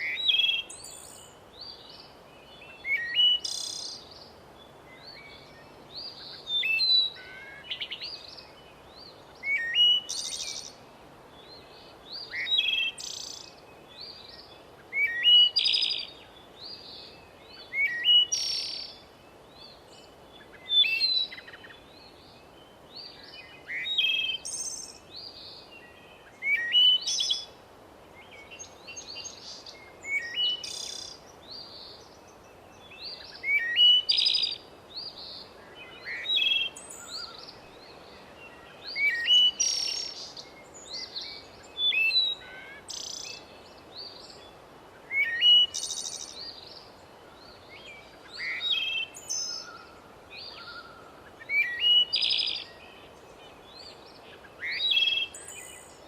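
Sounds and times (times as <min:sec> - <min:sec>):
faint steady hiss: 0:00.0 - 0:56.0
songbirds chirping: 0:00.0 - 0:56.0.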